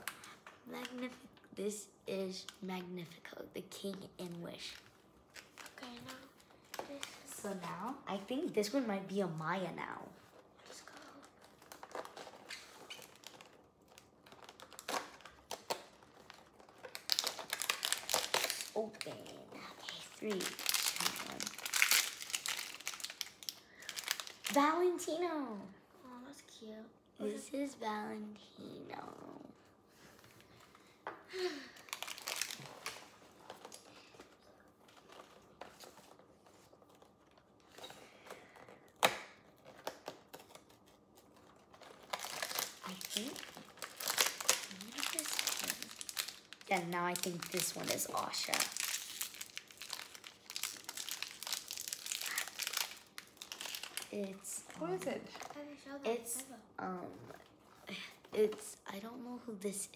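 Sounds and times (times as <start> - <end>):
plastic packaging crinkling: 2.3 - 25.2, 30.3 - 56.4.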